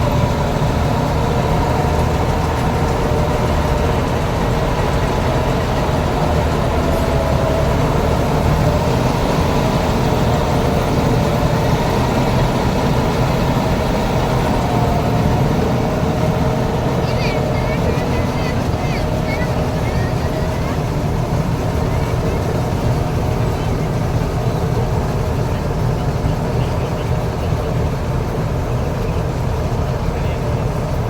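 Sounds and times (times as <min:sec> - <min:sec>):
harvester engine drone: 0:00.0 - 0:31.0.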